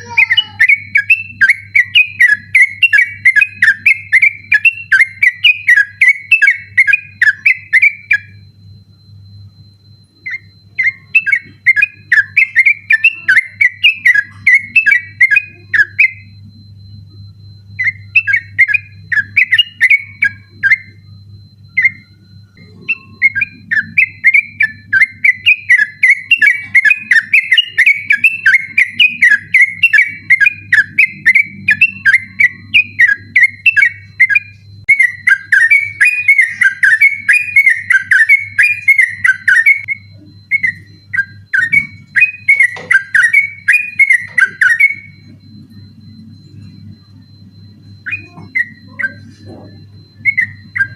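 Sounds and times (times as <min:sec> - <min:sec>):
bird chattering song: 0:00.0 - 0:08.4, 0:10.2 - 0:16.4, 0:17.7 - 0:21.1, 0:21.7 - 0:45.4, 0:47.8 - 0:50.9.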